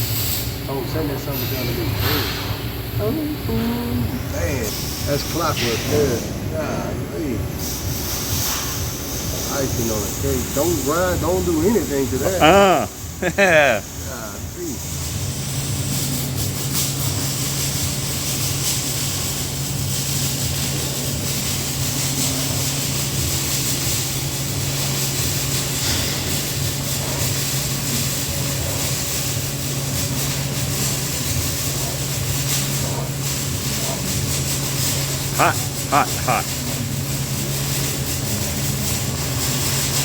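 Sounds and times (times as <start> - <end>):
welding arc hissing and crackling: 0.0 - 40.0
welding machine hum: 0.0 - 40.0.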